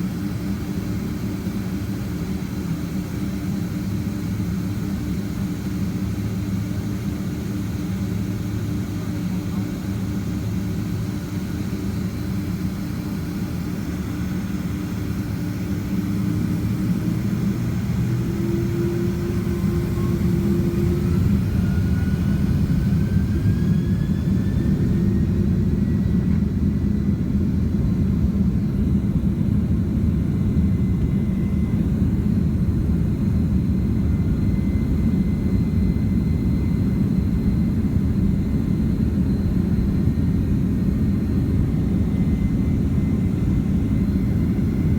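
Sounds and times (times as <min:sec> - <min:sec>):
deep jet engine rumble: 0:00.0 - 0:44.9
jet engine whine: 0:00.0 - 0:44.9.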